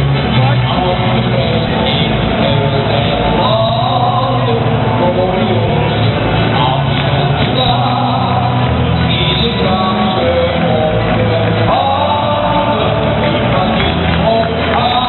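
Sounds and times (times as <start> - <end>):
crowd singing along: 0.0 - 15.0
song over stadium sound system: 0.0 - 15.0.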